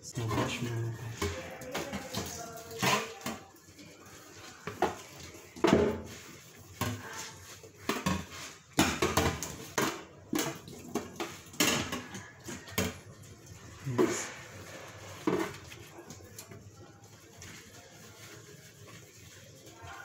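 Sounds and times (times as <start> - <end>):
plastic parts clattering in a sink: 0.1 - 20.0.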